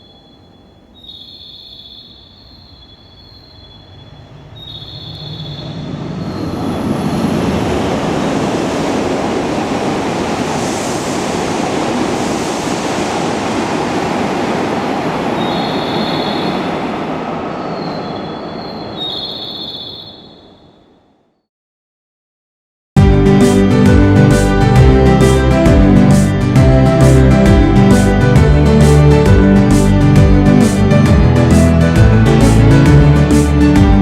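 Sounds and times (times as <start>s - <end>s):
train rumbling past: 3.4s - 20.8s, 23.0s - 34.0s.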